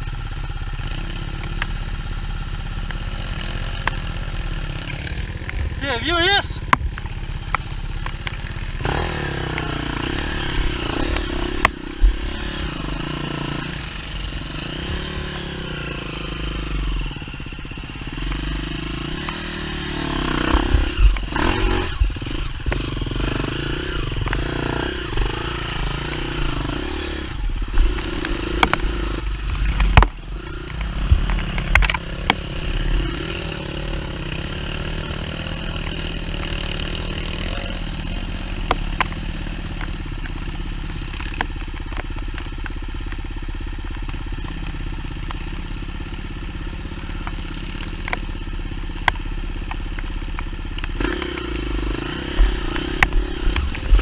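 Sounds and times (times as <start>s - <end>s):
dirt bike engine revving: 0.0s - 43.1s, 44.0s - 54.0s.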